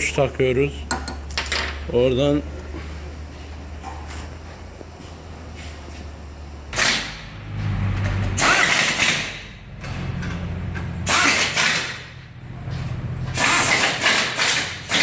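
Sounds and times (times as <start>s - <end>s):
engine droning: 0.0s - 11.2s, 11.8s - 13.7s.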